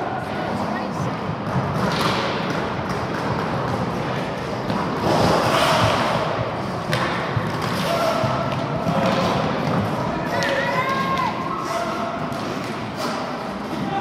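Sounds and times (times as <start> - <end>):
skate wheels rumbling on rink: 0.0 - 14.0.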